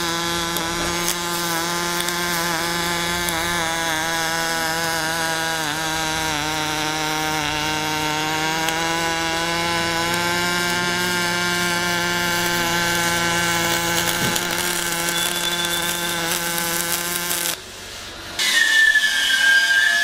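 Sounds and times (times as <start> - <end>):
angle grinder whining: 0.0 - 17.6.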